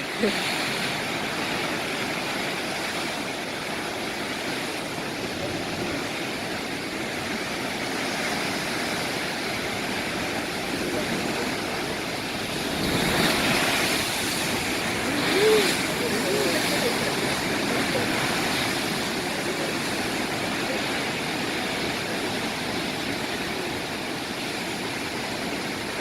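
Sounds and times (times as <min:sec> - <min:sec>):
waves breaking: 0:00.0 - 0:26.0.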